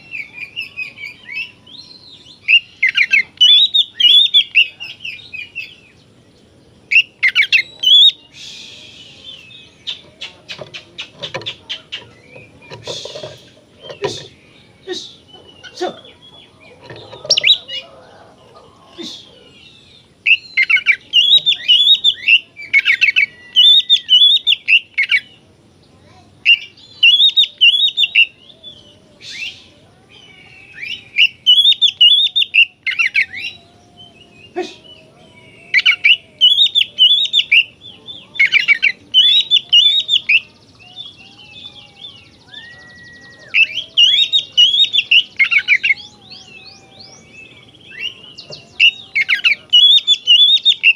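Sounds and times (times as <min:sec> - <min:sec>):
bird singing chattering song: 0:00.0 - 0:50.9.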